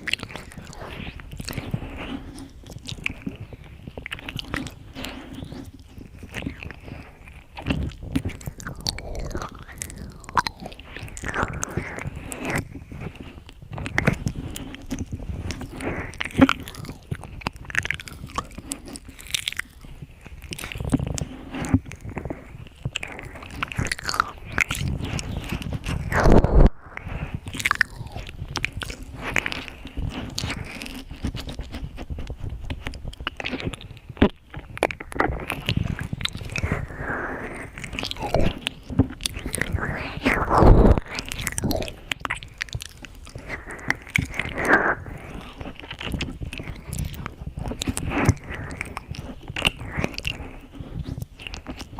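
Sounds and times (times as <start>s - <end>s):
lip and tongue clicks: 0.0s - 51.9s.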